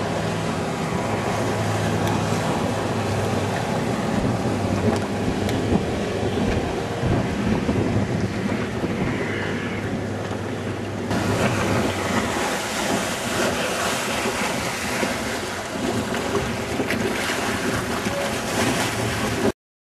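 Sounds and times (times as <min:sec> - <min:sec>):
outboard engine drone: 0:00.0 - 0:19.5
water slapping the hull: 0:00.0 - 0:19.5
wind on microphone: 0:00.0 - 0:19.5.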